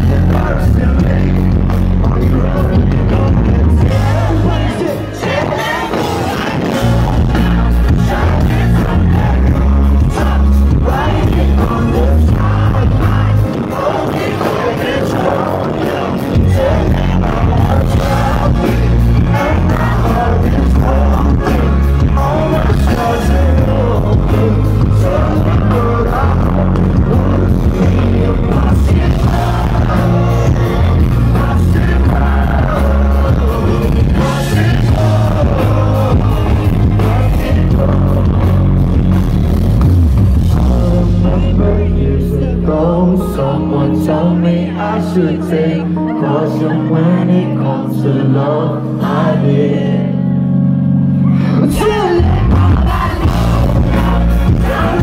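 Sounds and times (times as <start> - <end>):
heavy bass: 0.0 - 55.0
live band music: 0.0 - 55.0
man singing lead vocal: 0.0 - 55.0.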